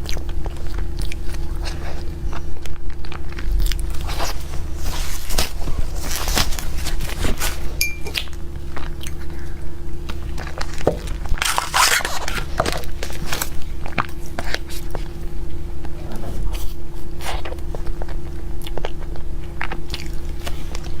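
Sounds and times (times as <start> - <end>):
crunching and chewing cake: 0.0 - 21.0
low hum: 0.0 - 21.0.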